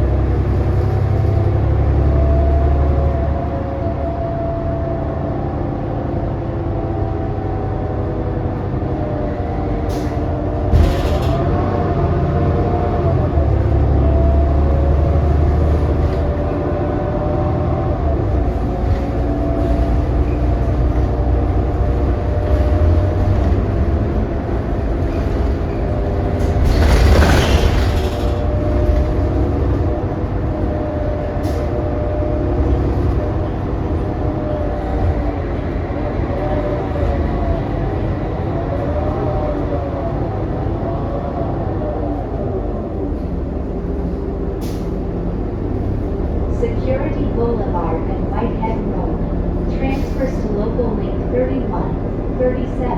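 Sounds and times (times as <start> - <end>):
bus engine rumble and drone: 0.0 - 52.9.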